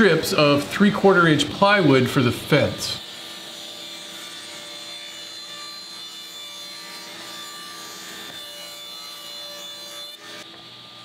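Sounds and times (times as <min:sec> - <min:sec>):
table saw cutting plywood: 0:00.0 - 0:11.0.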